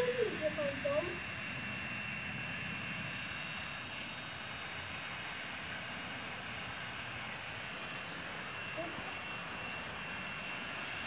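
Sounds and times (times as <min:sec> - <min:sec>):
faint high whine: 0:00.0 - 0:11.0
mechanical drone: 0:00.0 - 0:11.0.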